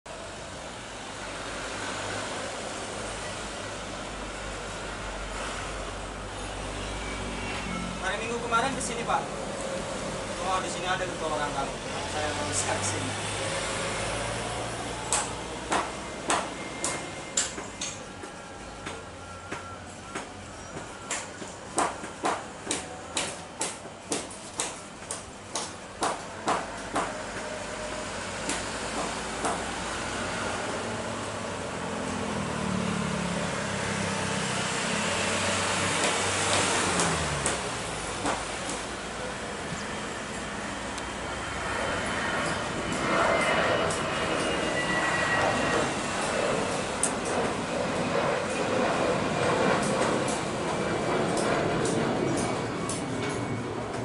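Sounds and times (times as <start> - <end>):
distant jet engines rushing: 0.1 - 54.0.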